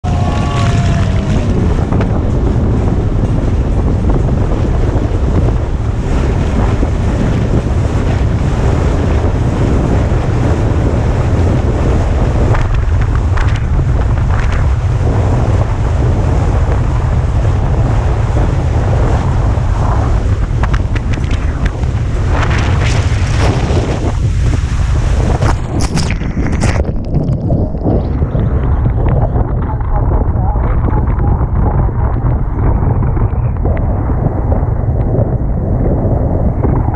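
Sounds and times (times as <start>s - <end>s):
speedboat rushing over water: 0.0s - 36.9s
wind buffeting microphone: 0.0s - 36.9s.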